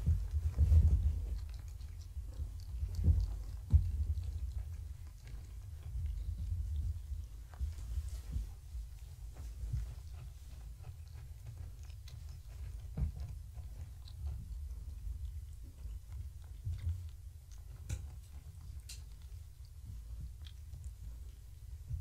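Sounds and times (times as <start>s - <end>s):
low room rumble: 0.0s - 22.0s.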